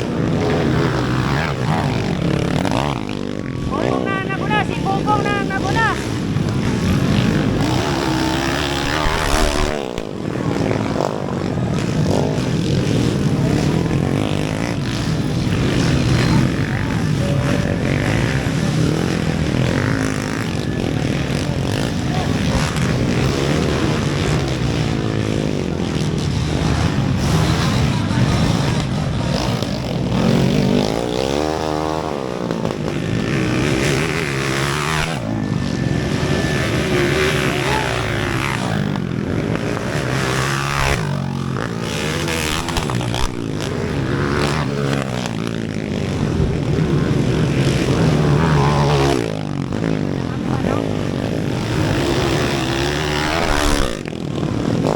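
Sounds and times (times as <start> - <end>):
motorcycle engines revving: 0.0 - 54.9.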